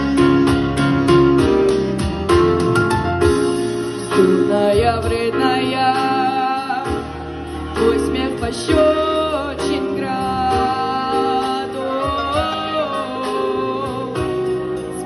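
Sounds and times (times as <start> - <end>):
instrumental accompaniment with bass: 0.0 - 15.0.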